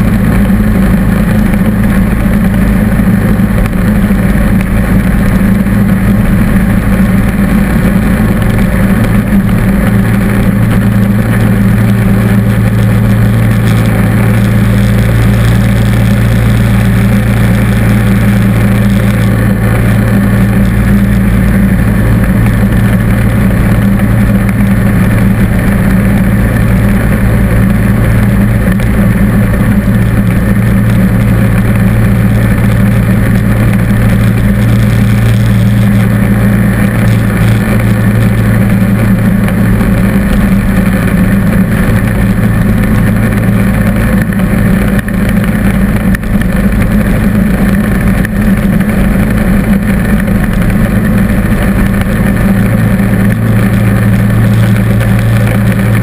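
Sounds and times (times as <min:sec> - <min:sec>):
lawn tractor engine drone: 0:00.0 - 0:56.0.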